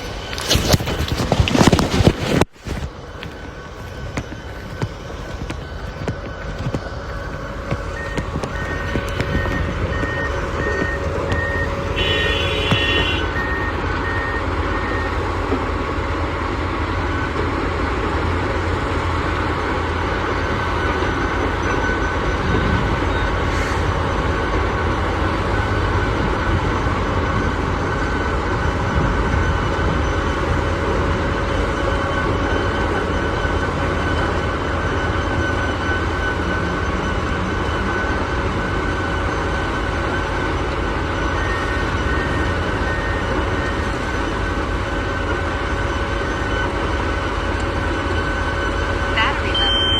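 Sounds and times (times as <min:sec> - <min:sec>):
diesel engine running: 0:00.0 - 0:49.9
reversing alarm beeping: 0:02.7 - 0:49.9.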